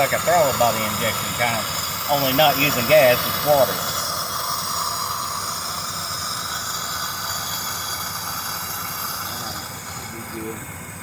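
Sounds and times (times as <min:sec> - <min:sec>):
engine idling: 0:00.0 - 0:11.0
steady hiss: 0:00.0 - 0:11.0.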